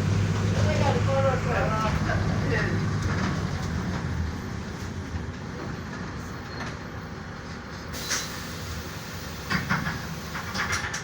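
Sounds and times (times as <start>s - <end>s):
bus diesel engine running: 0.0s - 11.0s
road and body noise: 0.0s - 11.0s.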